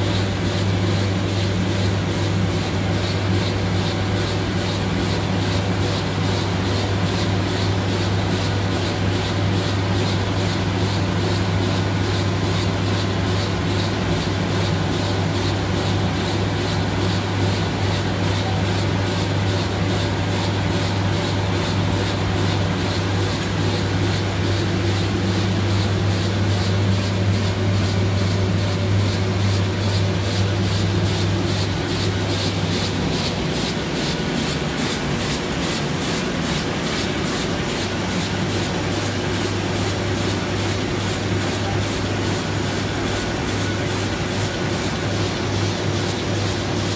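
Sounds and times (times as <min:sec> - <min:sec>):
printing press running: 0:00.0 - 0:46.9.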